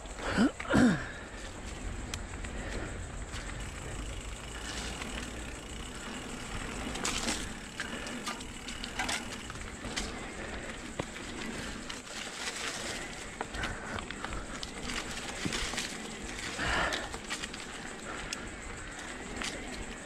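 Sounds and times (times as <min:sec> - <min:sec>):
bike rattling: 0:00.0 - 0:20.0
bike tyres rolling over dirt: 0:00.0 - 0:20.0
bike knocking over bumps: 0:00.6 - 0:20.0.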